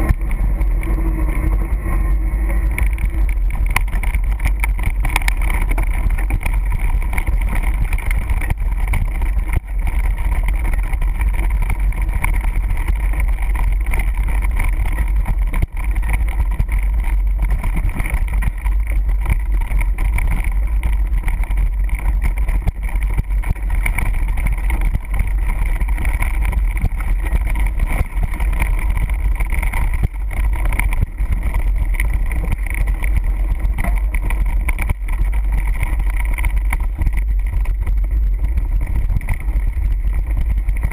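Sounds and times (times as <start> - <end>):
bike tyres on gravel: 0.0 - 40.9
wind buffeting microphone: 0.0 - 40.9.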